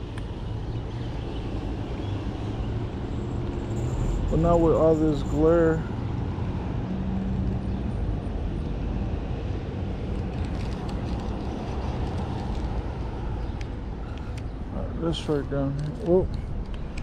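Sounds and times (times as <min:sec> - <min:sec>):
road traffic rumble: 0:00.0 - 0:17.0
tyre and road noise: 0:00.0 - 0:17.0
vehicle engine hum: 0:00.0 - 0:17.0.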